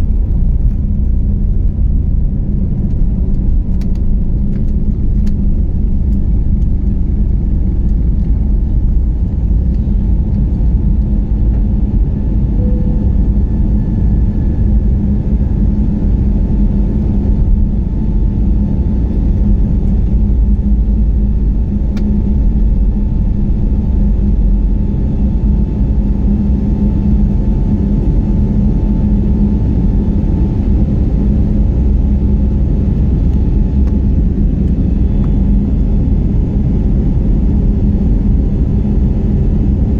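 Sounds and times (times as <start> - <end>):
airliner engines rumbling in cabin: 0.0 - 39.9
faint steady hum: 0.0 - 39.9.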